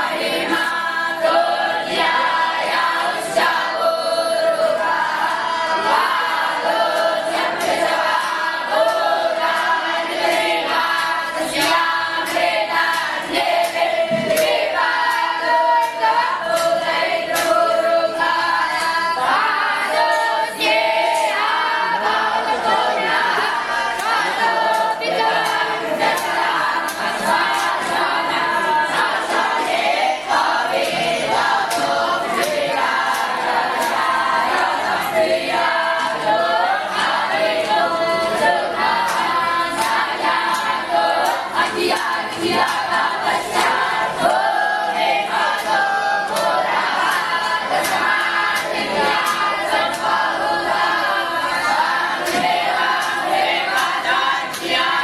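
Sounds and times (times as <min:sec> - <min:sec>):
crowd murmur: 0:00.0 - 0:55.0
young voices chanting in unison: 0:00.0 - 0:55.0.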